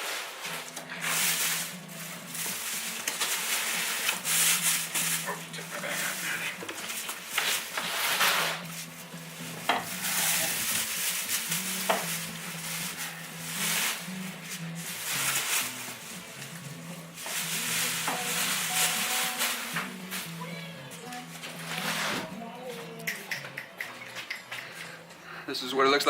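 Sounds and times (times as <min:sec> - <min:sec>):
cardboard and plastic packaging rustling: 0:00.0 - 0:23.0.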